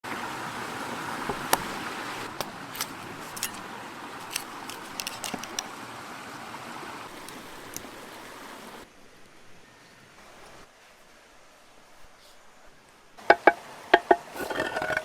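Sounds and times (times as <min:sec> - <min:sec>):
steady hiss: 0:00.2 - 0:15.0.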